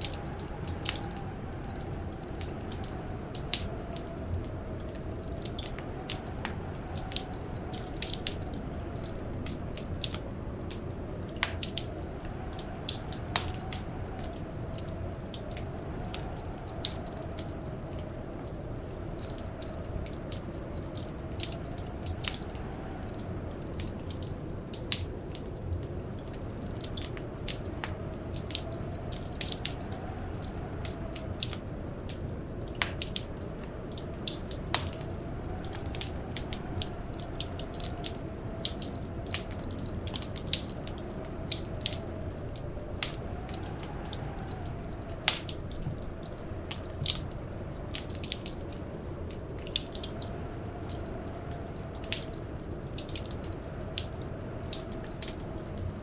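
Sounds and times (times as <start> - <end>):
faint whistling wind: 0.0 - 56.0
wood fire crackling and popping: 0.0 - 56.0.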